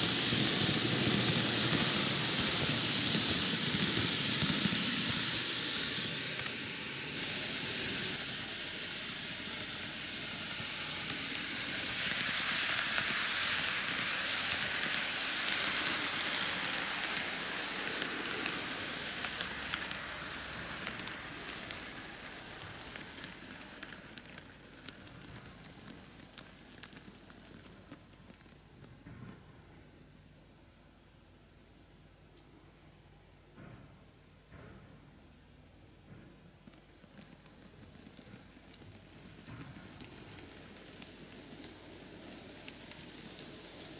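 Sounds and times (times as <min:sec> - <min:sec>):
model train running: 0:00.0 - 0:28.5, 0:36.7 - 0:43.9.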